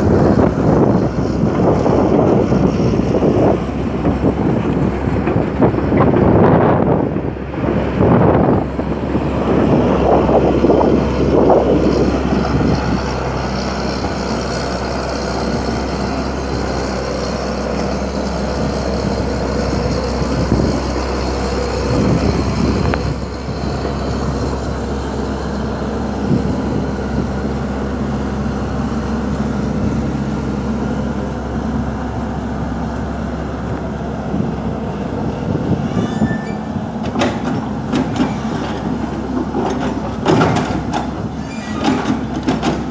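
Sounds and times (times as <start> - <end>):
excavator diesel engine running: 0.0 - 42.9
wind gusts on microphone: 0.0 - 42.9.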